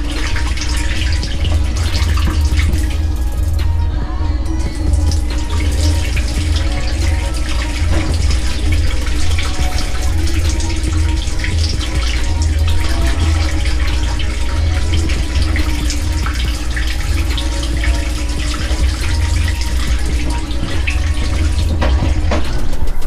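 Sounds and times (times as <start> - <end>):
water running and splashing: 0.0 - 3.8, 4.6 - 22.9
pump motor humming: 0.0 - 22.9.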